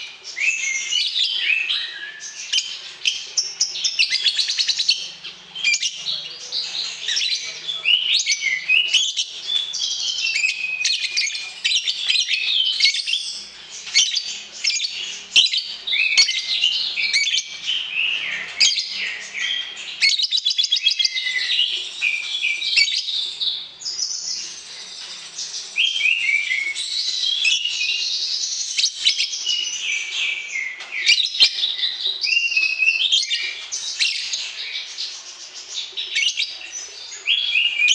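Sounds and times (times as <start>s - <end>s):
songbirds chorus: 0.0s - 37.9s.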